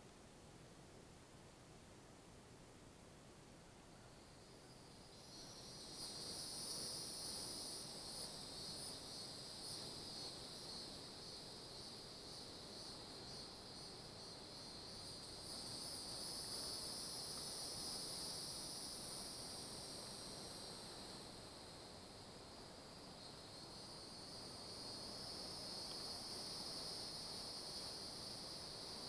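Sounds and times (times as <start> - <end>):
insects chirring: 3.6 - 29.0.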